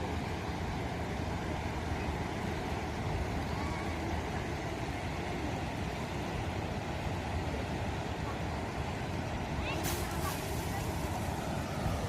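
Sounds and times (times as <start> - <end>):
floodwater rushing through gates: 0.0 - 12.0.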